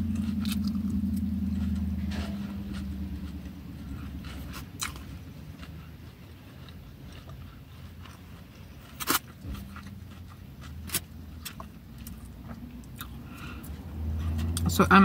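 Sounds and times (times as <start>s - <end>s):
quiet chewing: 0.0s - 14.7s
low rumble inside car: 0.0s - 15.0s.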